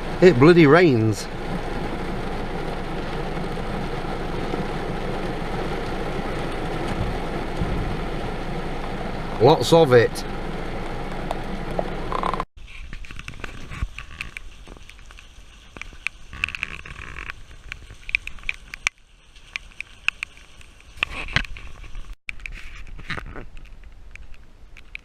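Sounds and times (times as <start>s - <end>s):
rain pattering: 0.0s - 22.2s.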